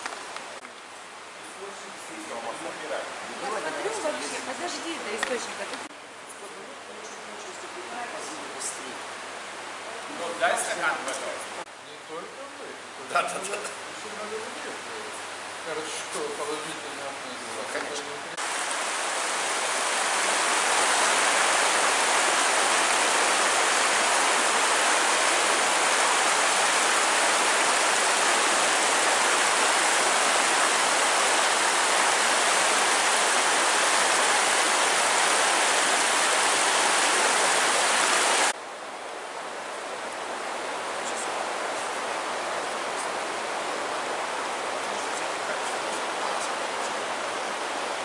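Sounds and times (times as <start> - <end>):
flowing water rushing: 0.0 - 11.7, 13.0 - 48.0.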